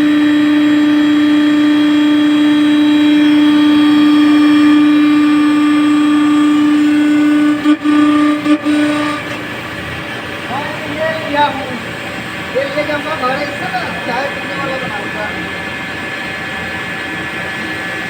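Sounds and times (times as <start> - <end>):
lathe whine: 0.0 - 18.0.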